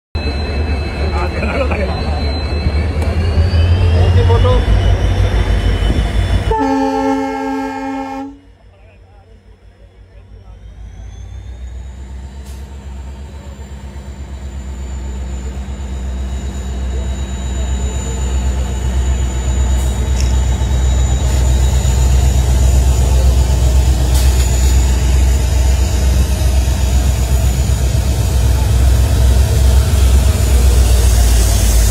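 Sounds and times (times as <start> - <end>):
locomotive rumble: 0.2 - 31.9.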